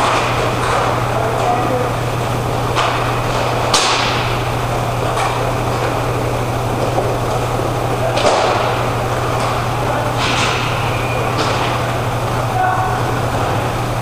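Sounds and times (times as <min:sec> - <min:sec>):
hockey sticks and puck clacking: 0:00.0 - 0:13.7
low hum: 0:00.0 - 0:14.0.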